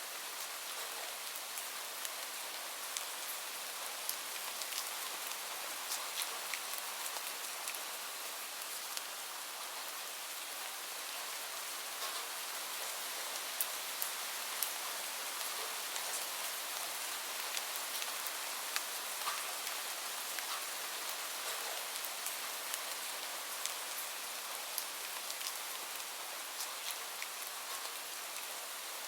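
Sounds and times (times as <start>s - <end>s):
steady rainfall hiss: 0.0s - 29.0s.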